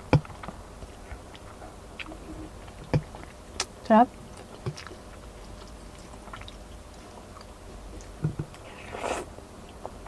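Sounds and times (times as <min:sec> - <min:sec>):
person chewing food: 0:00.1 - 0:03.7, 0:04.3 - 0:09.9.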